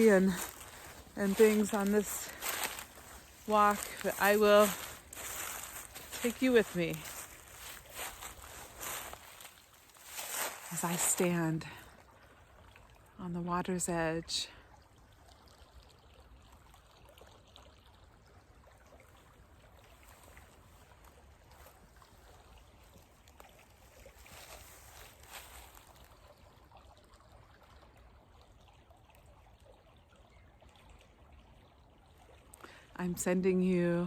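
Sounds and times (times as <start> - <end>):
creek water trickling: 0.0 - 34.0.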